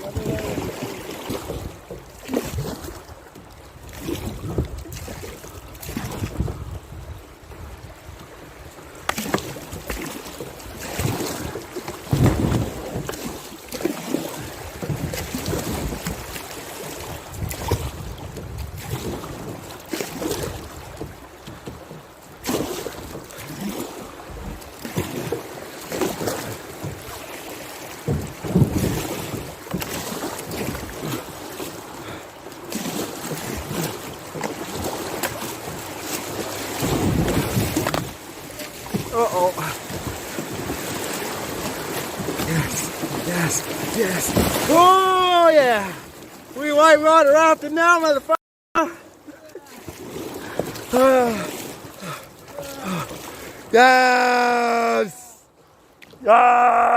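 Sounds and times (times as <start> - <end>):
paddle strokes splashing: 0.0 - 56.3
water sloshing: 0.0 - 56.4.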